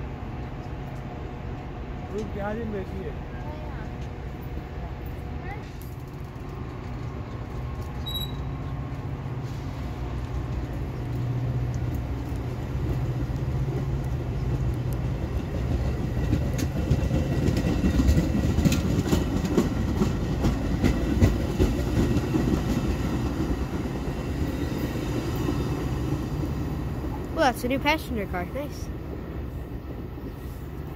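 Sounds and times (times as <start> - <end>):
train cars rumbling: 0.0 - 30.9.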